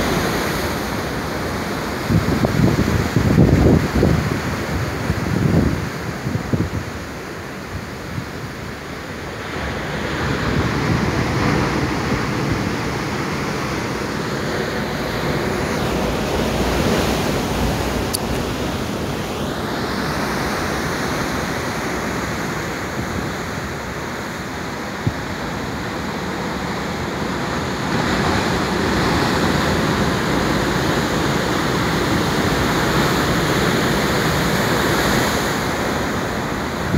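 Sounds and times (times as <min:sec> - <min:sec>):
ocean surf breaking over rocks: 0:00.0 - 0:36.9.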